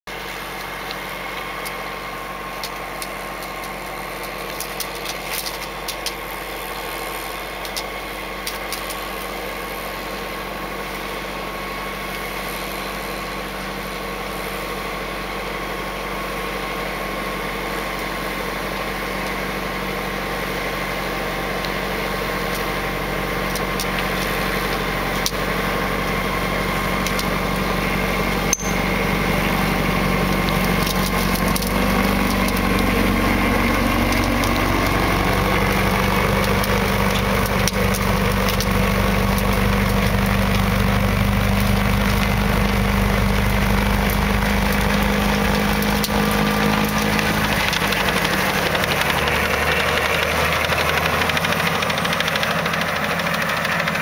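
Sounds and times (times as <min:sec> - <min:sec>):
tractor diesel engine running: 0:00.0 - 0:54.0
snowblower churning snow: 0:00.1 - 0:54.0.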